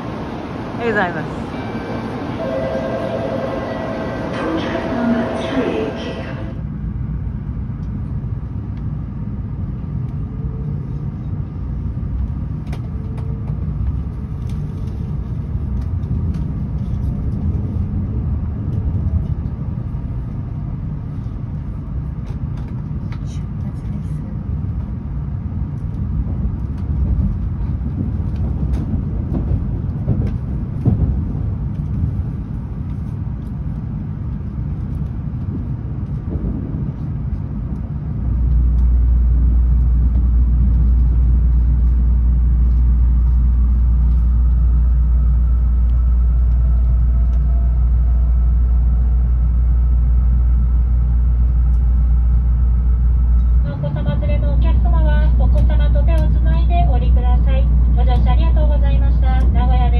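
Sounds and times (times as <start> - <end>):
loud deep train rumble: 0.0 - 59.9
train cabin rumble: 0.0 - 59.9.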